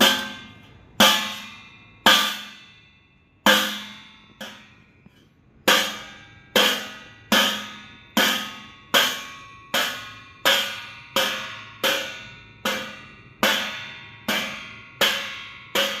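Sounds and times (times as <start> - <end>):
spoon striking steel plate: 0.0 - 2.7, 3.4 - 16.0.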